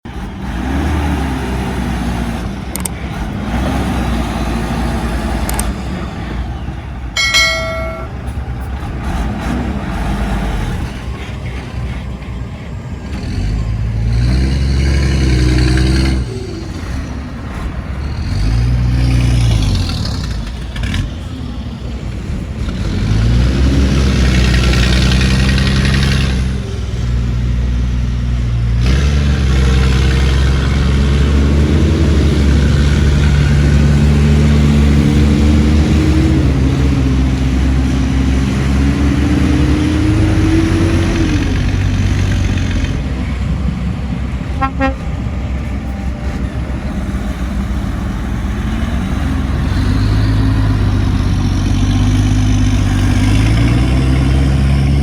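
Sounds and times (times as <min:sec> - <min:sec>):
diesel machinery revving: 0:00.0 - 0:55.0.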